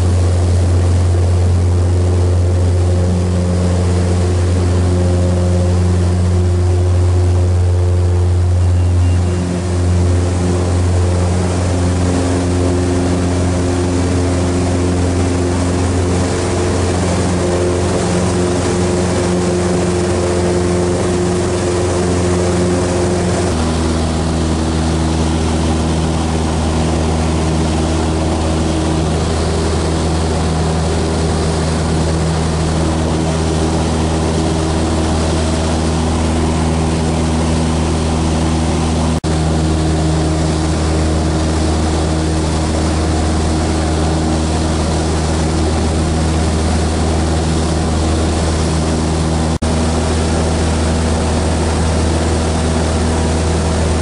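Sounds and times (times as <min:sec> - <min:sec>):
aircraft engine and propeller drone: 0:00.0 - 0:54.0.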